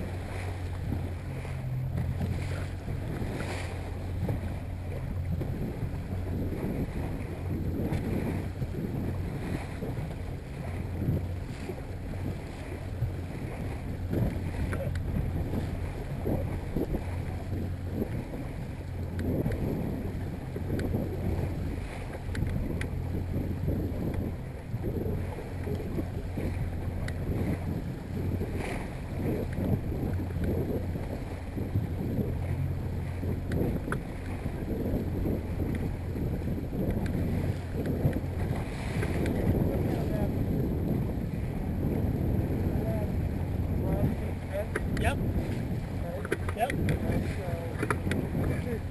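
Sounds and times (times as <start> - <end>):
outboard motor humming: 0.0 - 48.9
wind rumbling on microphone: 0.0 - 48.9.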